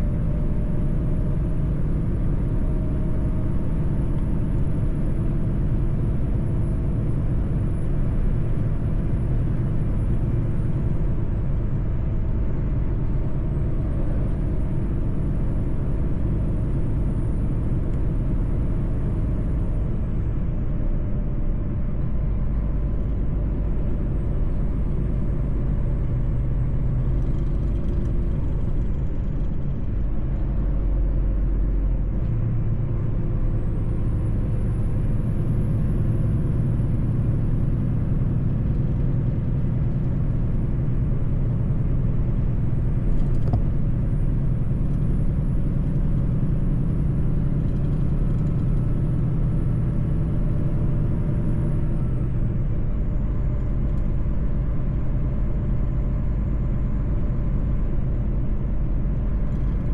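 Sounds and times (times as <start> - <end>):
road rumble: 0.0 - 59.9
truck engine drone: 0.0 - 59.9.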